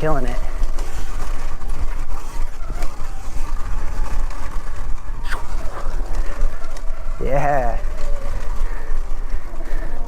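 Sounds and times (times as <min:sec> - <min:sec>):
tyre noise: 0:00.0 - 0:10.0
wind buffeting microphone: 0:00.0 - 0:10.0
falling whine: 0:00.4 - 0:09.8.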